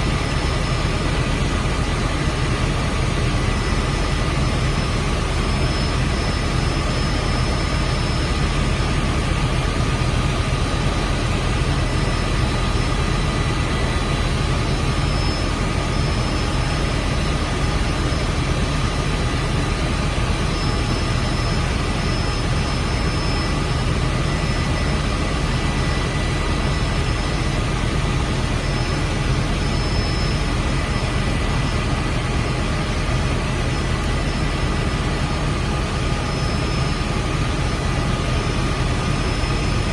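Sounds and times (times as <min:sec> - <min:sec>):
helicopter engine and rotor roar: 0:00.0 - 0:39.9
high turbine whine: 0:00.0 - 0:39.9.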